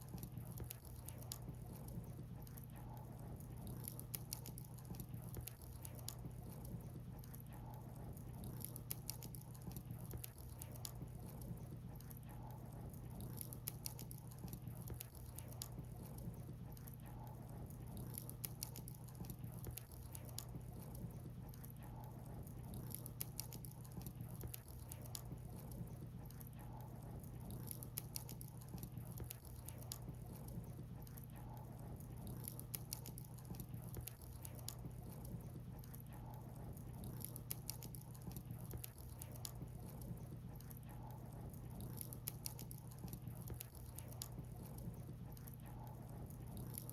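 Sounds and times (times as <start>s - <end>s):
firewood crackling and popping: 0.0s - 2.8s, 3.4s - 46.9s
low fire rumble: 0.0s - 46.9s.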